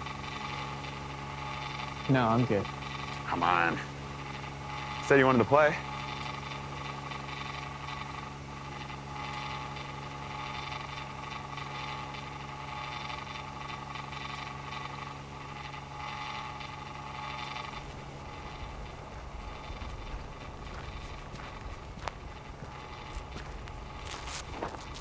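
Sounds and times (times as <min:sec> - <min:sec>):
pitching machine motor humming: 0:00.0 - 0:25.0.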